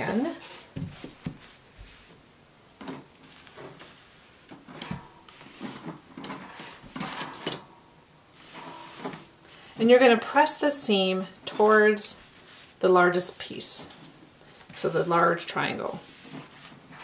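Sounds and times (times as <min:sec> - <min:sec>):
fabric rustling: 0:00.0 - 0:17.0.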